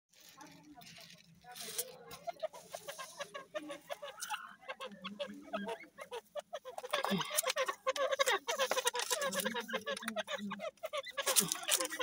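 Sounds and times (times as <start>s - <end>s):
francolin clucking calls: 2.2s - 12.0s.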